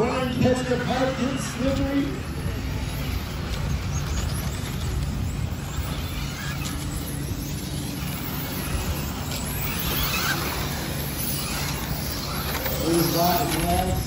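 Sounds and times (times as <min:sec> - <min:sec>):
electric rc cars racing: 0:00.0 - 0:14.0.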